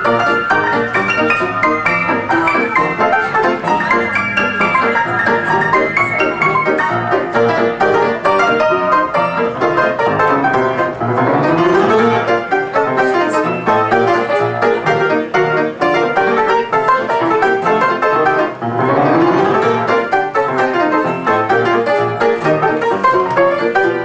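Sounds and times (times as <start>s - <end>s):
ragtime piano: 0.0s - 24.0s.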